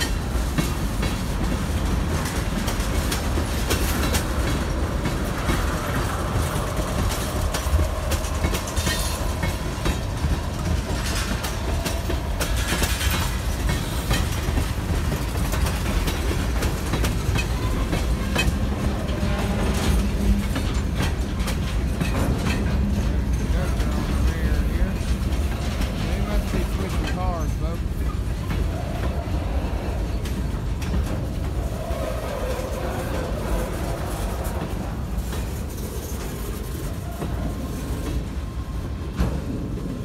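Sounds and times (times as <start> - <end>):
freight train rumble: 0.0 - 40.0
train wheels clicking over rail joints: 0.0 - 40.0.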